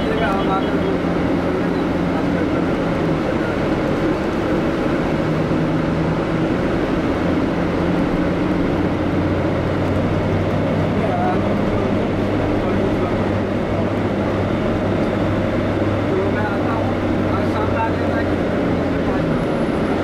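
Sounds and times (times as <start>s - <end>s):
bus engine and road drone: 0.0s - 20.0s.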